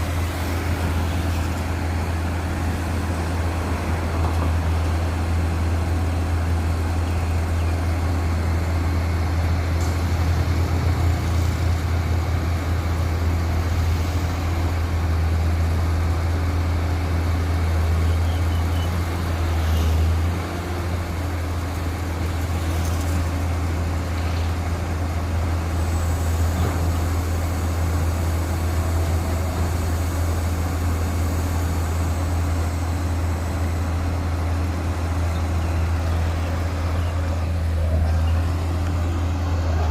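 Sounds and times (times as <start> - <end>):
drilling rig diesel engine humming: 0.0 - 39.9.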